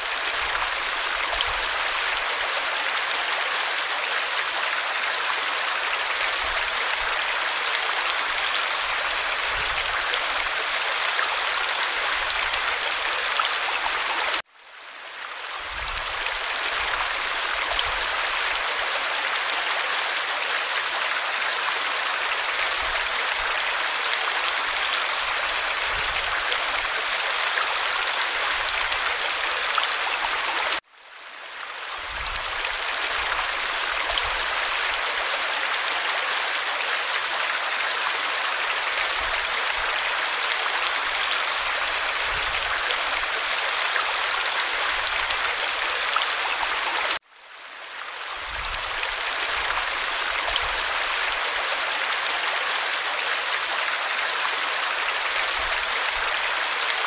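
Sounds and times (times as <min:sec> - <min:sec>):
stream water splashing over cascade: 0:00.0 - 0:14.5, 0:15.2 - 0:30.9, 0:31.5 - 0:47.3, 0:47.9 - 0:57.0.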